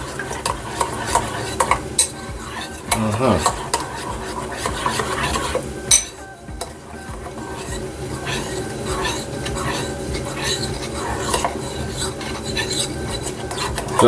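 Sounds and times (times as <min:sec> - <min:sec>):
utensil scraping a bowl: 0:00.0 - 0:14.0.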